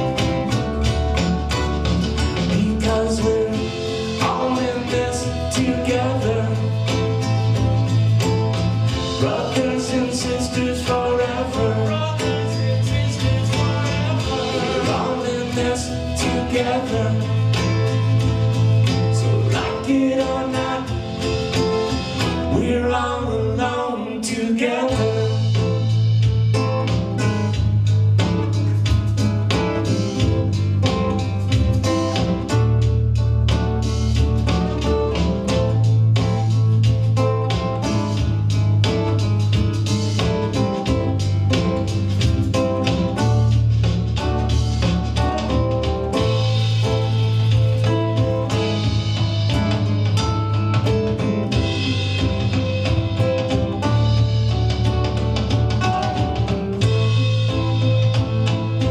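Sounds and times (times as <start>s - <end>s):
drum kit beat: 0.0s - 22.8s, 24.9s - 58.9s
guitar strumming: 0.0s - 58.9s.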